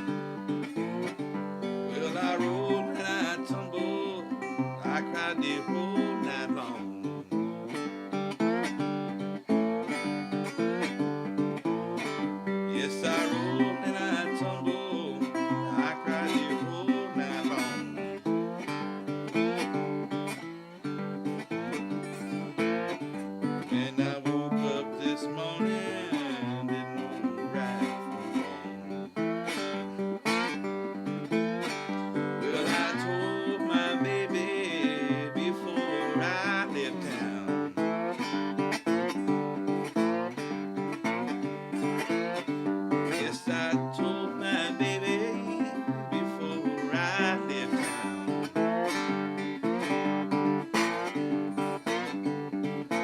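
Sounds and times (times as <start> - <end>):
slide acoustic guitar blues: 0.0 - 53.0.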